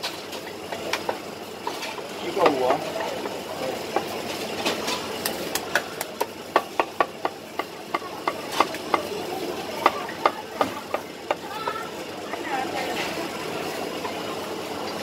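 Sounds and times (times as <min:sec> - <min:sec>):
background hubbub: 0:00.0 - 0:15.0.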